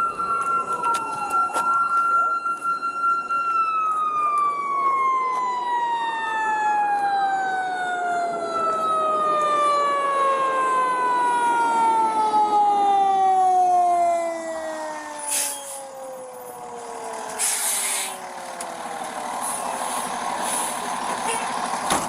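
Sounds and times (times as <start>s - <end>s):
faint wailing siren: 0.0s - 22.0s
siren winding down: 0.0s - 22.0s.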